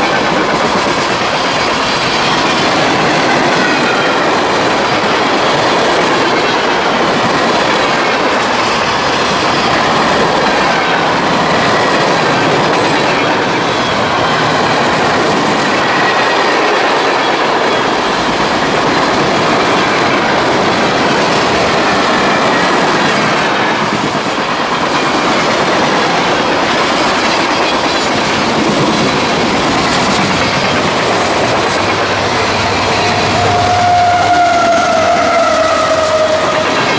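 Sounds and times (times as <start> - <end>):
freight train wheels rattling: 0.0 - 36.9.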